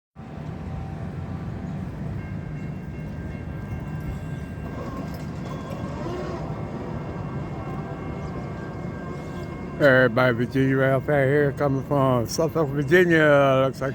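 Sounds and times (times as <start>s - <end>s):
passenger train rumbling by: 0.2s - 13.9s.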